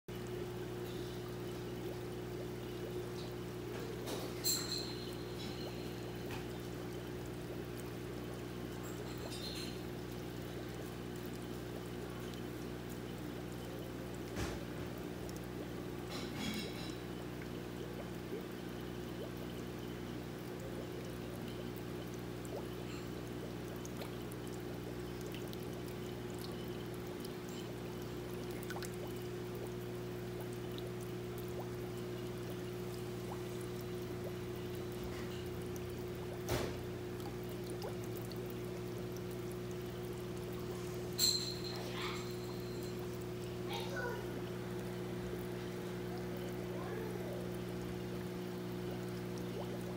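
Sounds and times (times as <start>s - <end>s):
pump hum: 0.1s - 49.9s
water pouring into aquarium: 0.1s - 49.9s.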